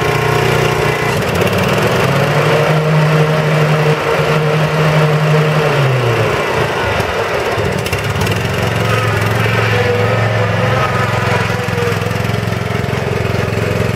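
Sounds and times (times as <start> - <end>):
riding mower engine running: 0.0 - 13.9.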